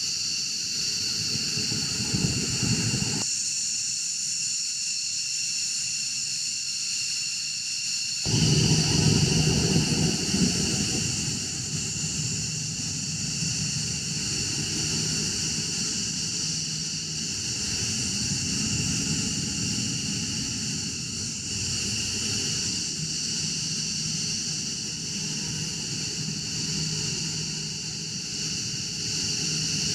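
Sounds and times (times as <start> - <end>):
jet engines idling: 0.2 - 3.3, 8.3 - 29.9.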